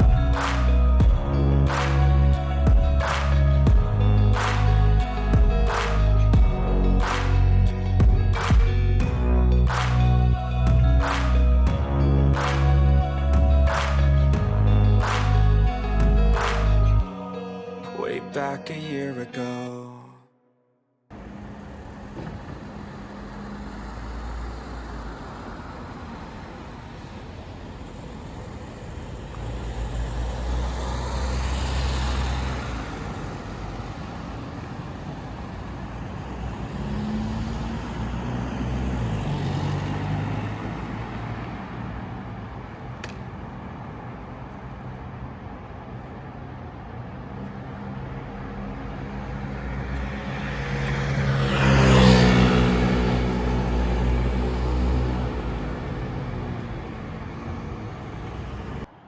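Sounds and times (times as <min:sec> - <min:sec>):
street traffic rumble: 0:00.0 - 0:19.9, 0:21.1 - 0:59.0
vehicles passing: 0:00.0 - 0:20.2, 0:21.1 - 0:59.0.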